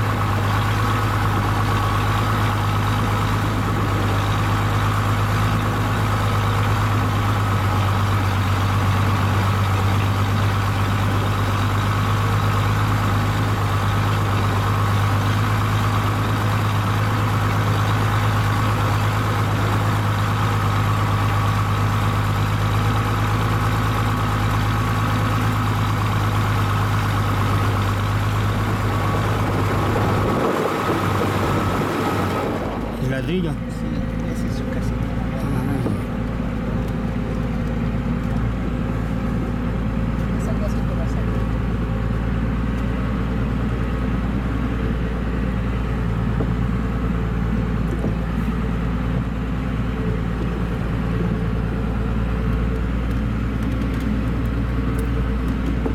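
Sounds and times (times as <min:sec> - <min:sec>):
car engine running steadily: 0:00.0 - 0:55.9.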